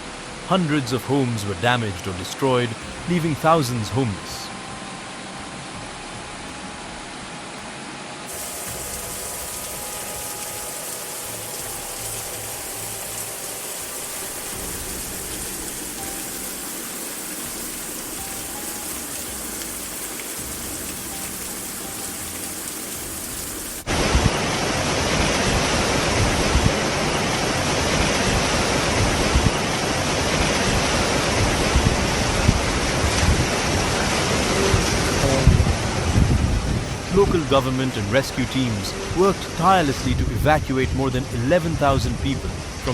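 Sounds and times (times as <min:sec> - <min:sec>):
floodwater rushing: 0:00.0 - 0:07.2, 0:08.3 - 0:42.9
rain: 0:00.0 - 0:42.9.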